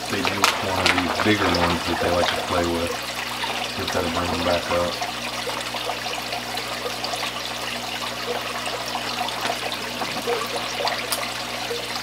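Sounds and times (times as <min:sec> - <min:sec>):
bubbles popping: 0:00.0 - 0:12.0
water splashing and trickling: 0:00.0 - 0:12.0.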